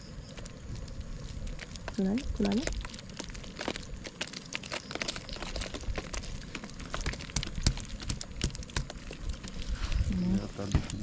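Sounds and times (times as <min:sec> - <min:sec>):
crinkling rustle: 0:00.1 - 0:11.0
light clicks and crackles: 0:00.1 - 0:11.0.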